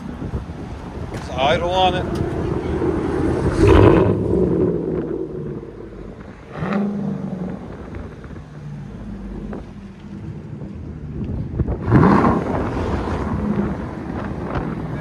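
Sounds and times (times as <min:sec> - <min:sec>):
truck engine idling deep: 0:00.0 - 0:15.0.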